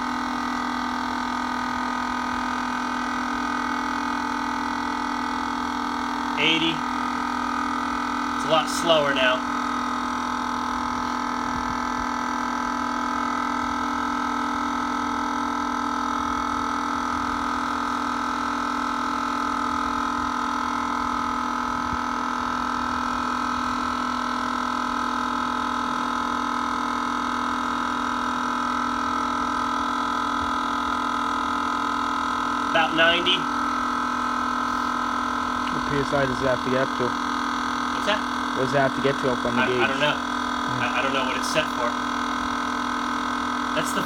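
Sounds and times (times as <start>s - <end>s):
air compressor humming: 0.0s - 44.0s.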